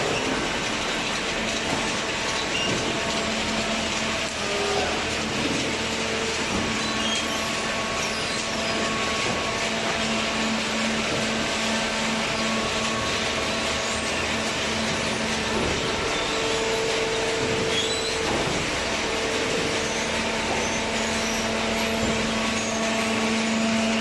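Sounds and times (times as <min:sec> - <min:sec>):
hydraulic baler humming: 0:00.0 - 0:24.0.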